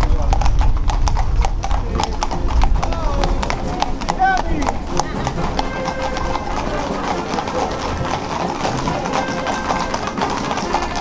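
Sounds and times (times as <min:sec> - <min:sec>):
hooves clip-clopping on asphalt: 0:00.0 - 0:11.0.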